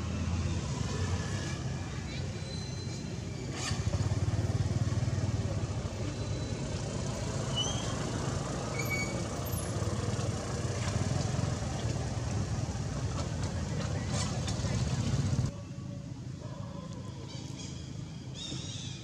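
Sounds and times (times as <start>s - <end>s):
vehicle engine rumbling: 0.0s - 16.3s.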